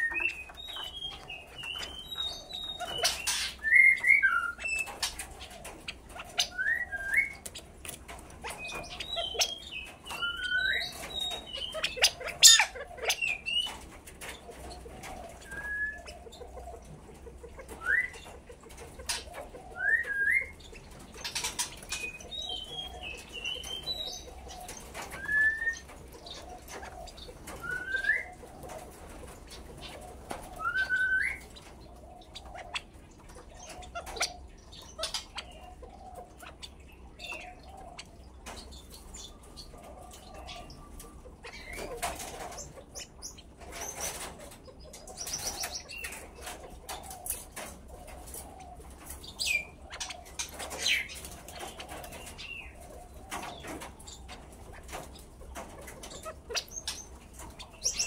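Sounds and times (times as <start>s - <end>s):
quail chirping: 0.0s - 58.0s.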